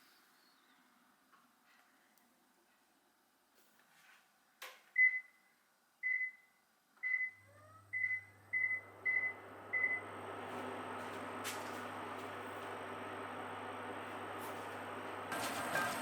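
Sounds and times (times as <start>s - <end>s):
cooktop hum and fan noise: 0.1s - 16.0s.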